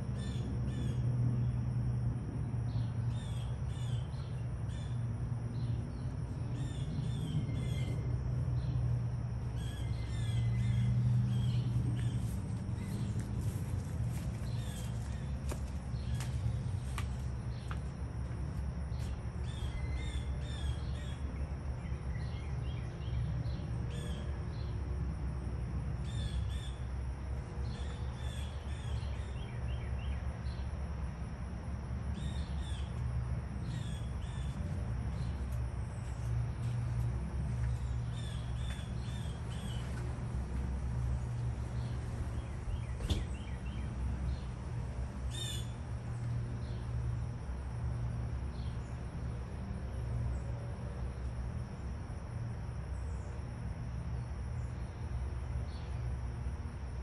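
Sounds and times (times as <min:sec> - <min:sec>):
songbirds chirping: 0:00.2 - 0:24.9, 0:26.0 - 0:51.9.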